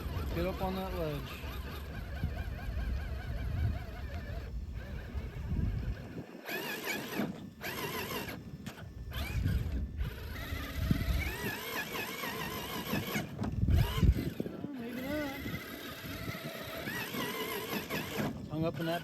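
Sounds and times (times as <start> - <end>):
toy truck motor whining: 0.0 - 19.0.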